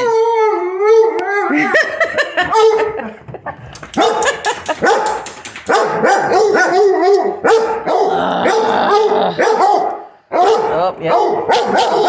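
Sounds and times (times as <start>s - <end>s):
dogs barking excitedly: 1.7s - 12.0s.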